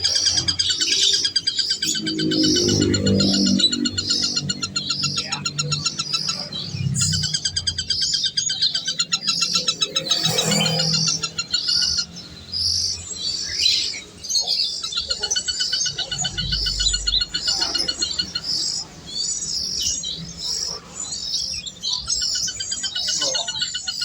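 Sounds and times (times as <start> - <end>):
birds chirping: 0.0 - 24.0
rapid pulsing trills: 0.0 - 24.0.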